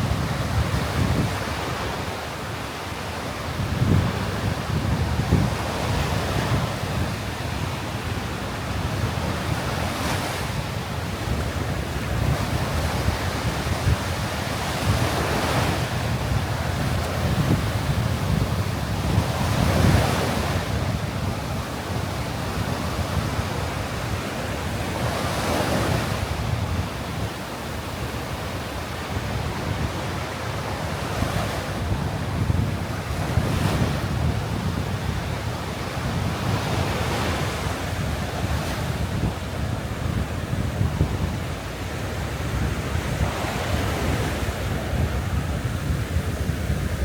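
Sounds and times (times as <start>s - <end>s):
sea surf breaking on beach: 0.0s - 47.0s
wind rumble on microphone: 0.0s - 47.0s.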